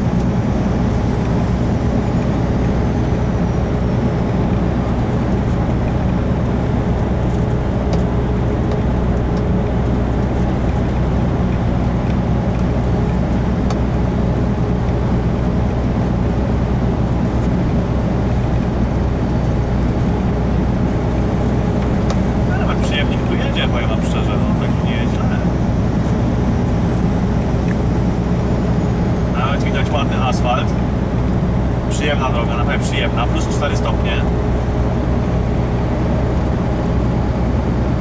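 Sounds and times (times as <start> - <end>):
truck diesel engine drone: 0.0 - 38.0
tyre and road noise: 0.0 - 38.0.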